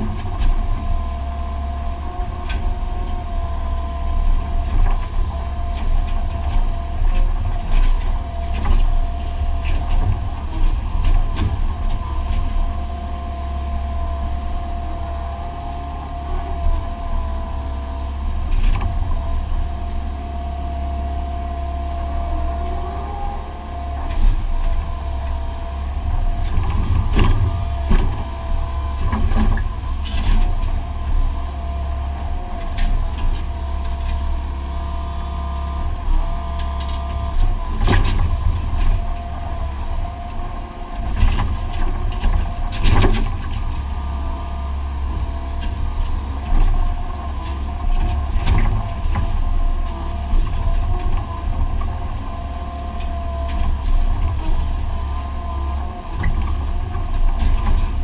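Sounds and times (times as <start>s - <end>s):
excavator diesel engine droning: 0.0s - 58.0s
steady engine whine: 0.0s - 58.0s.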